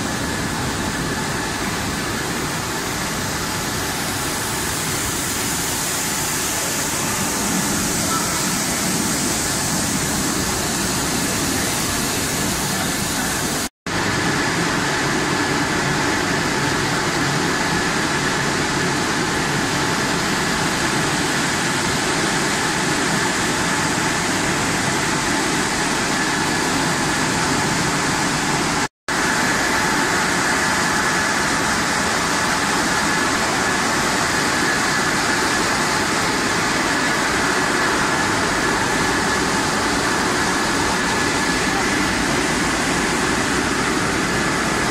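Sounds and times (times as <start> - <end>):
production line machinery running: 0.0 - 44.9.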